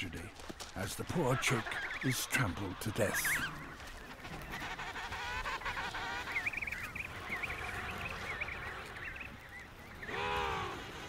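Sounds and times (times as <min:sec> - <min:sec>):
penguins calling: 0:00.1 - 0:11.0.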